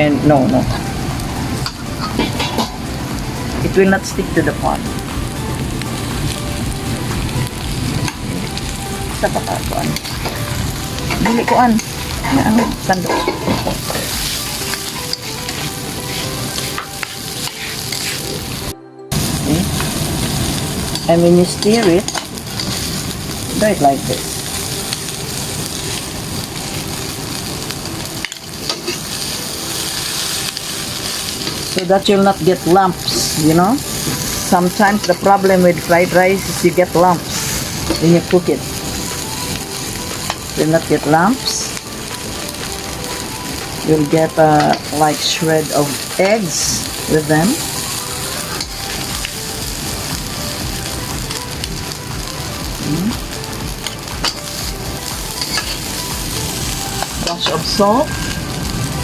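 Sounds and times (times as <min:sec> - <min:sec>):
rice sizzling in a frying pan: 0:00.2 - 0:59.0.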